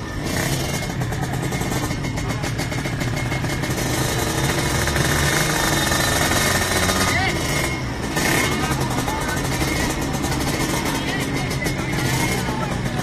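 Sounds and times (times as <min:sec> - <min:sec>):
motorcycle engines pulsing: 0:00.0 - 0:13.0.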